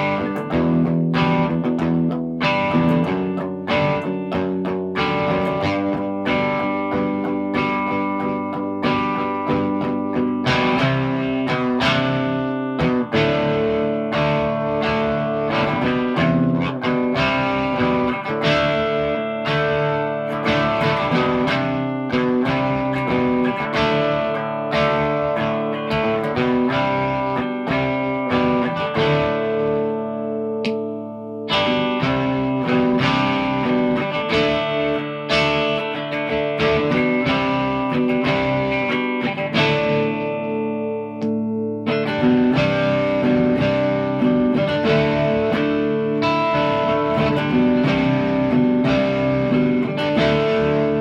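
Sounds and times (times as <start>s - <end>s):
electric guitar chords ringing: 0.0s - 51.0s.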